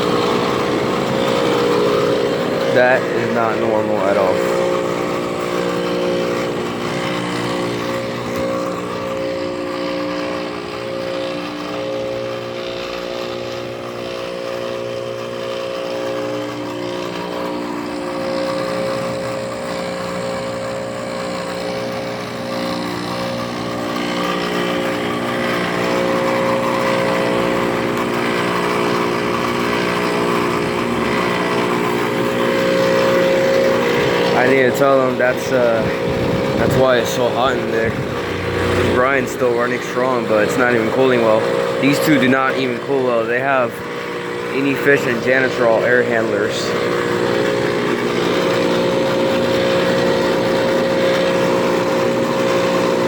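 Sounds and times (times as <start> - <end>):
air conditioner unit humming: 0.0 - 53.0.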